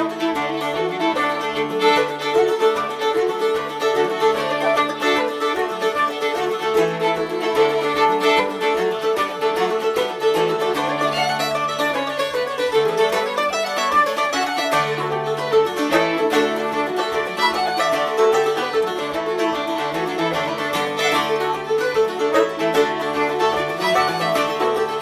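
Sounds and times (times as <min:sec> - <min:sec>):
folk jig on flute and fiddle: 0:00.0 - 0:25.0
strummed bouzouki chords: 0:00.0 - 0:25.0.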